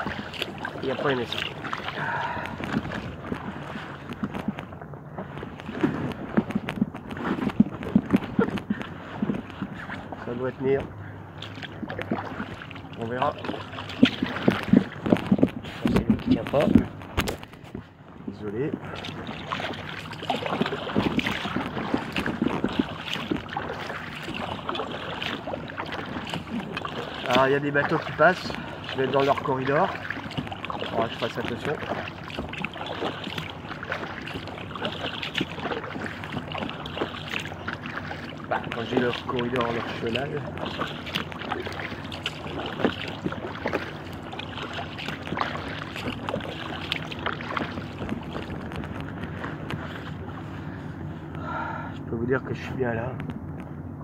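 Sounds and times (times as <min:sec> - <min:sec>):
water splashing against kayak hull: 0:00.0 - 0:53.8
low steady hum: 0:00.0 - 0:54.0.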